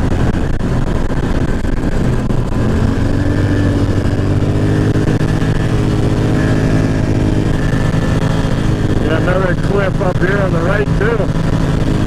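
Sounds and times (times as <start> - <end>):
atv engine running: 0.0 - 12.0
gravel and road noise: 0.0 - 12.0.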